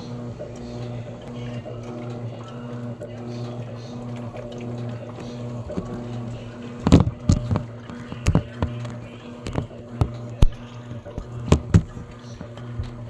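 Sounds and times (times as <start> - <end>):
washing machine motor hum: 0.0 - 13.0
water and clothes sloshing: 0.0 - 13.0.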